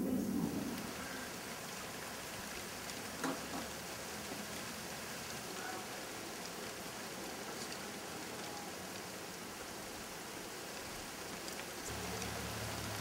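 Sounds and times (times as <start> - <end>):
hail pattering on ground: 0.1 - 13.0.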